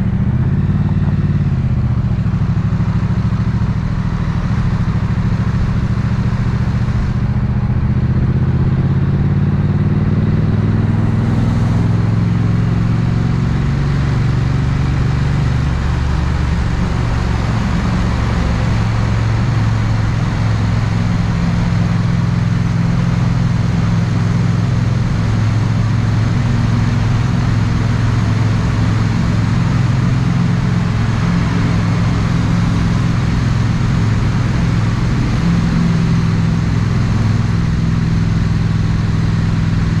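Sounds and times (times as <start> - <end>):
motorcycle engine at low revs: 0.0 - 40.0.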